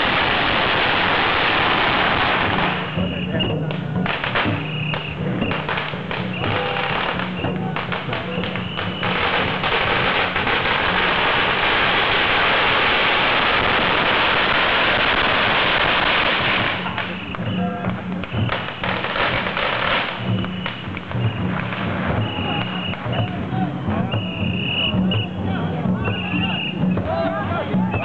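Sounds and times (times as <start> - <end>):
scattered pops: 0.0 - 23.5
drums and gongs beating: 0.0 - 28.0
firecrackers crackling: 0.0 - 28.0.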